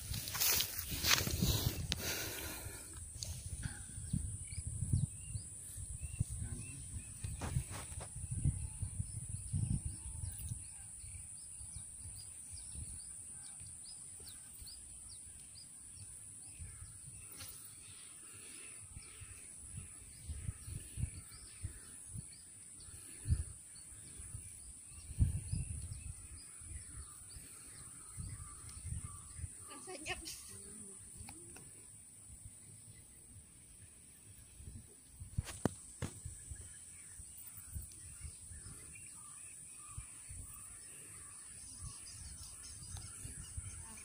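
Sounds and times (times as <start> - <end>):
faint bird chirps: 3.6 - 44.0.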